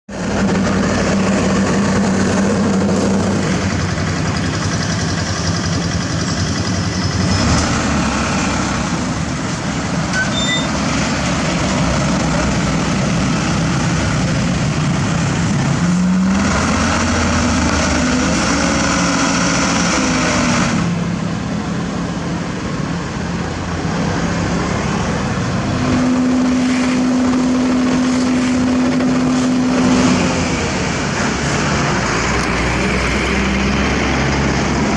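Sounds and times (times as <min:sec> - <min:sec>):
heavy diesel machinery running: 0:00.1 - 0:34.9.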